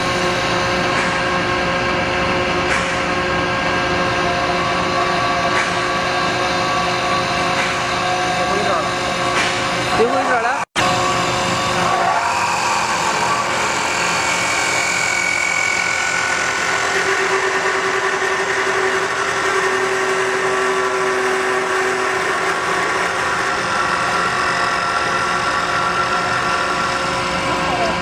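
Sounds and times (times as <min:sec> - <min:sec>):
wood-turning lathe running: 0:03.2 - 0:28.0.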